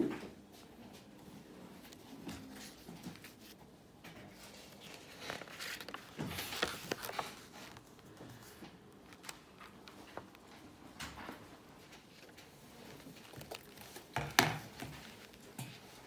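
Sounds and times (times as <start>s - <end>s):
sketchbook pages turning: 1.0s - 16.0s.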